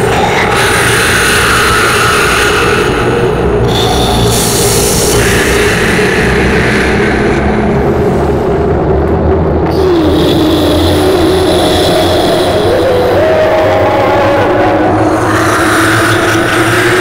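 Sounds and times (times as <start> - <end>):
low rumble drone: 0.0 - 17.0
moaning tone: 0.0 - 17.0.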